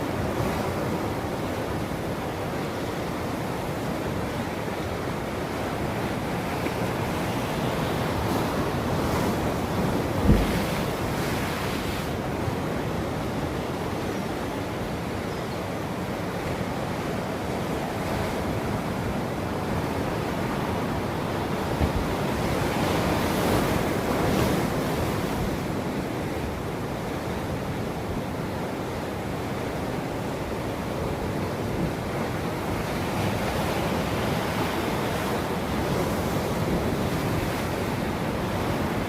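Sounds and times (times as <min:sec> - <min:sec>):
ocean waves breaking: 0:00.0 - 0:13.9, 0:16.2 - 0:39.0.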